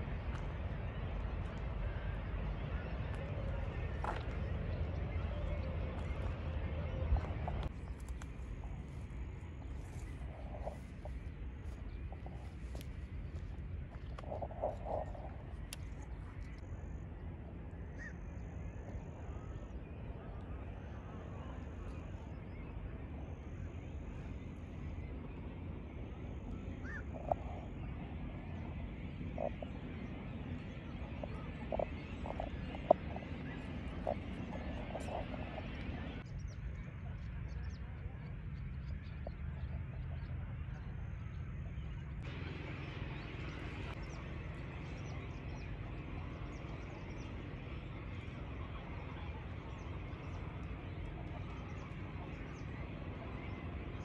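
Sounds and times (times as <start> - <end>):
small birds chirping: 0.0 - 17.0, 17.8 - 54.0
outdoor background noise: 0.0 - 54.0.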